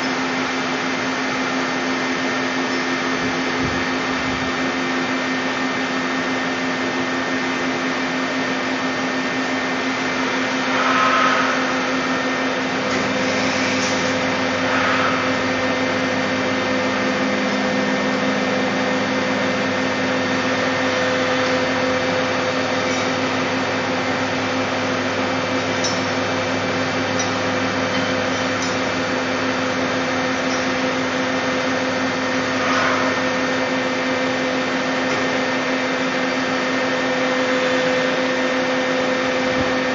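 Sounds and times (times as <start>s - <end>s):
deeper machine hum: 0.0s - 39.9s
lathe humming and whining: 0.0s - 39.9s.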